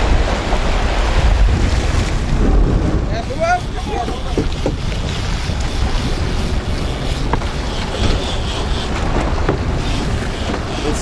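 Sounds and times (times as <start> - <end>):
boat at sea: 0.0 - 11.0
water around boat: 0.0 - 11.0
wind rumbling on microphone: 0.0 - 11.0.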